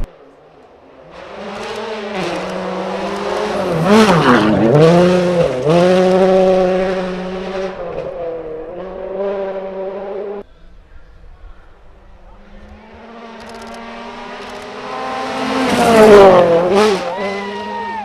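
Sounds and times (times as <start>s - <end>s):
rally car passing at speed: 0.0s - 11.0s, 11.7s - 18.0s.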